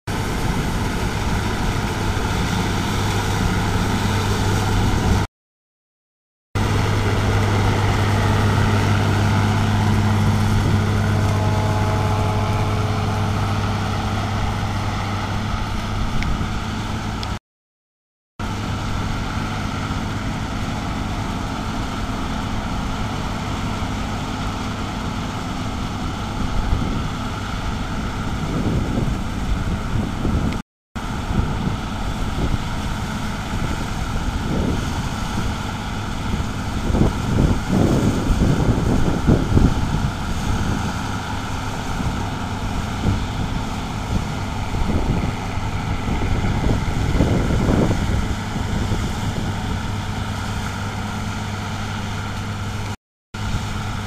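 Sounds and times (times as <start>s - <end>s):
combine harvester engine drone: 0.1s - 5.3s, 6.6s - 17.4s, 18.4s - 54.0s.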